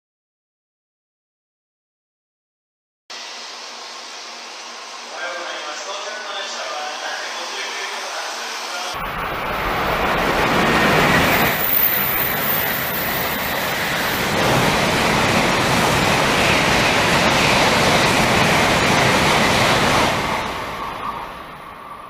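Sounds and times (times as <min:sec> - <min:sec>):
high-speed train passing: 0:03.1 - 0:22.0.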